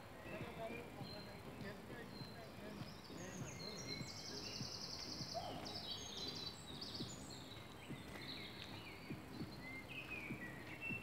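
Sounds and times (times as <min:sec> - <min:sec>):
low background noise: 0:00.0 - 0:11.0
songbirds singing: 0:00.0 - 0:11.0.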